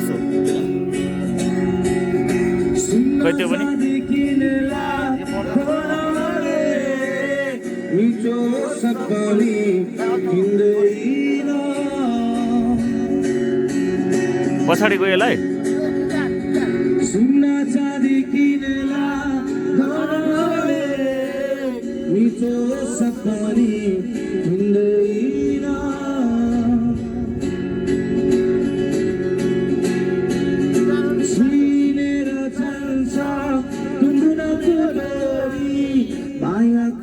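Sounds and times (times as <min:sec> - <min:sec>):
strummed guitar: 0:00.0 - 0:37.0.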